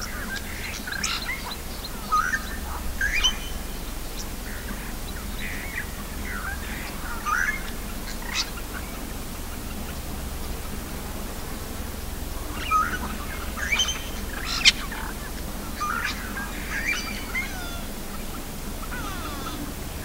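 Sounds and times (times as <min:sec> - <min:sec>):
birds chirping and whistling: 0:00.0 - 0:09.0, 0:12.4 - 0:20.0
steady low rumble: 0:00.0 - 0:20.0.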